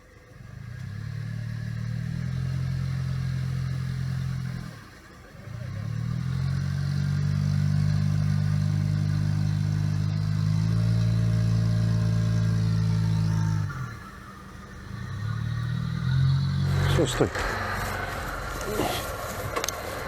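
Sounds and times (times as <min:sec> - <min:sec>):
all-terrain vehicle engine revving: 0:00.0 - 0:20.0.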